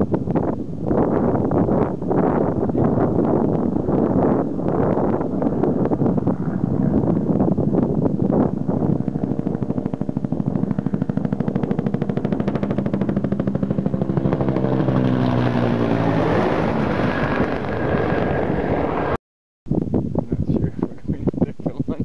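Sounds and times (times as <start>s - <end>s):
helicopter rotor chopping: 0.1s - 19.2s.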